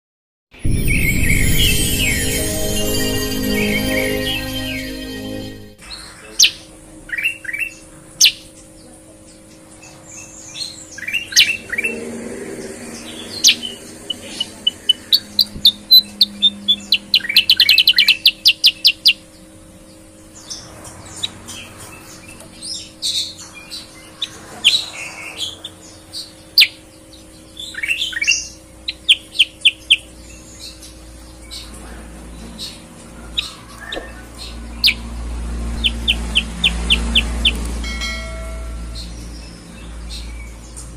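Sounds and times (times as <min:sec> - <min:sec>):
birds singing: 0:05.8 - 0:37.8, 0:38.8 - 0:40.9.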